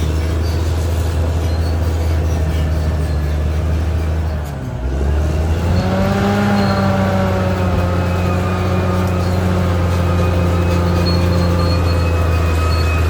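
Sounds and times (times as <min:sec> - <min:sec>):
bulldozer diesel engine droning: 0:00.0 - 0:13.0
engine whine: 0:00.0 - 0:13.0.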